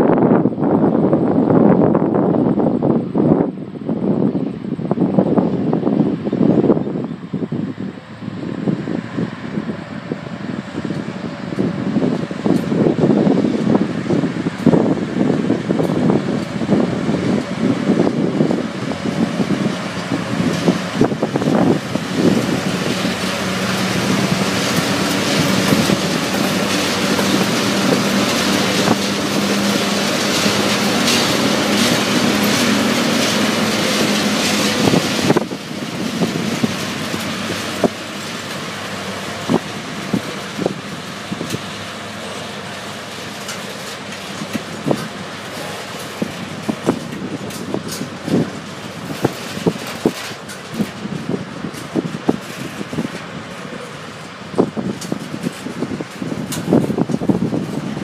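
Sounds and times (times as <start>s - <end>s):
diesel locomotive engines: 0.0s - 58.0s
rumble of freight wagons: 0.0s - 58.0s
wheels clicking over rail joints: 9.1s - 58.0s.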